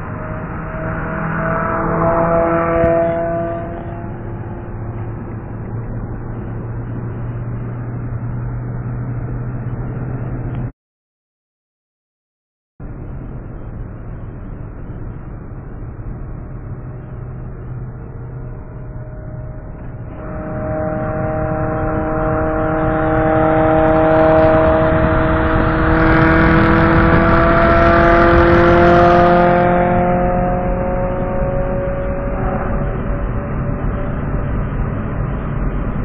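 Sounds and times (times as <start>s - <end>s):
car engine accelerating hard: 0.0s - 10.7s, 15.4s - 36.0s
road and wind noise: 0.0s - 10.7s, 12.8s - 36.0s.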